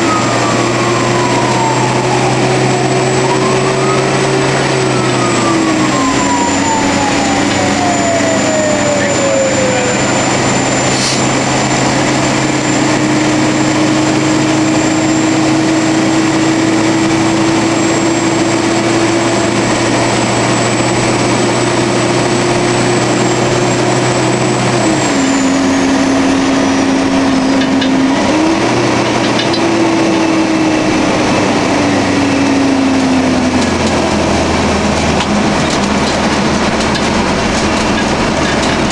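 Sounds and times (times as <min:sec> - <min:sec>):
tone gliding down in pitch: 0:00.0 - 0:35.6
fire engine running: 0:00.0 - 0:38.9
road noise: 0:00.0 - 0:38.9.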